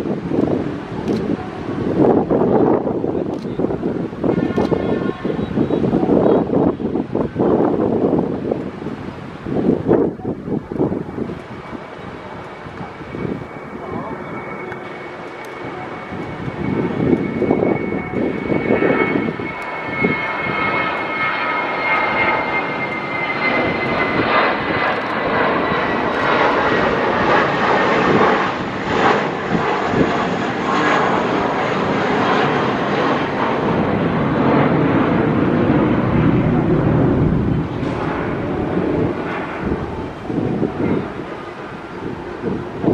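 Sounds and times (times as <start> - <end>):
high fan whine: 0.0 - 42.9
jet engine roar: 0.0 - 42.9.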